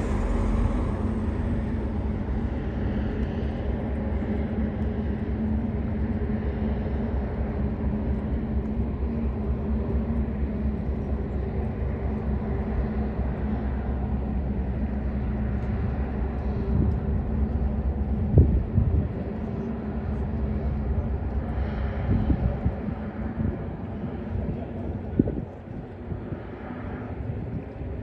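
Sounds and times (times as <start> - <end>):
ship engines droning: 0.0 - 26.2.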